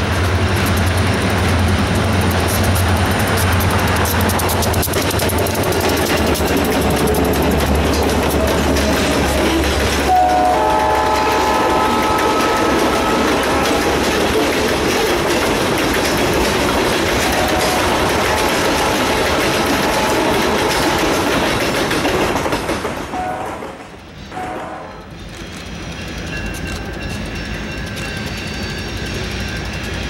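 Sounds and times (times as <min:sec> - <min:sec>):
train wheels running over rails: 0:00.0 - 0:30.0.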